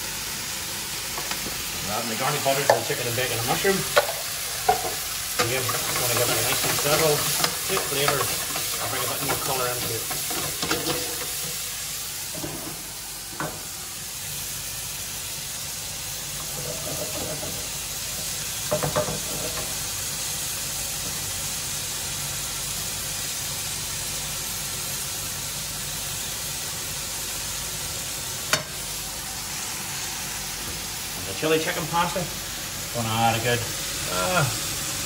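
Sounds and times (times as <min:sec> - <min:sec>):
food sizzling in pans: 0:00.0 - 0:35.0.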